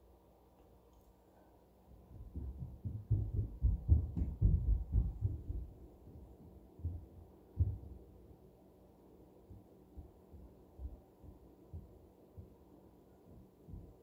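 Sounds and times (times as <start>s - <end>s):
muffled thumps through ceiling: 1.9s - 14.0s.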